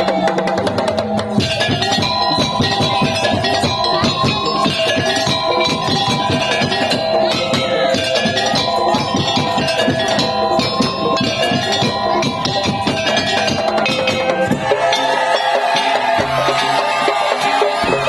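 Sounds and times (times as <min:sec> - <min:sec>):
drum ensemble with melody: 0:00.0 - 0:18.0.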